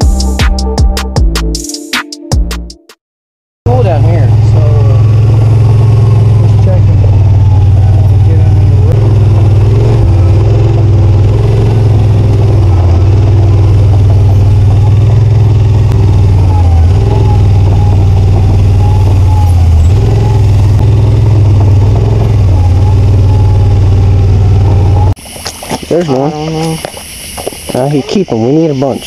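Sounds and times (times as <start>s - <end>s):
utility vehicle engine running: 3.7s - 29.0s.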